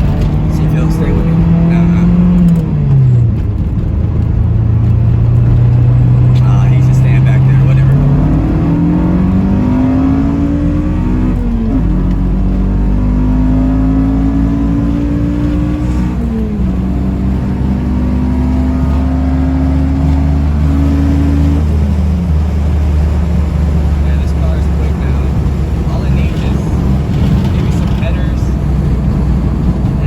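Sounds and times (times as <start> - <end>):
car engine accelerating through gears: 0.0 - 30.0.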